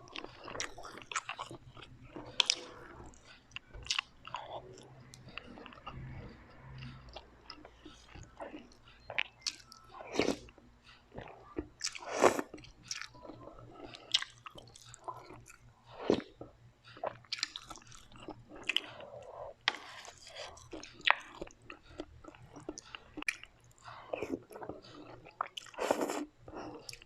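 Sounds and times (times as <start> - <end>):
chewing crunchy food: 0.0 - 27.0.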